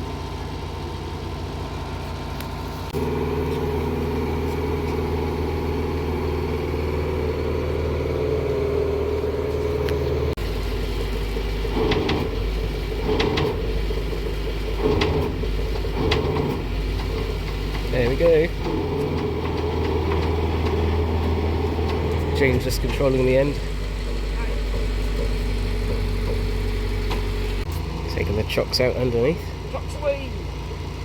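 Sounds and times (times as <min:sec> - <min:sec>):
lifting machine engine revving: 0:00.0 - 0:31.0.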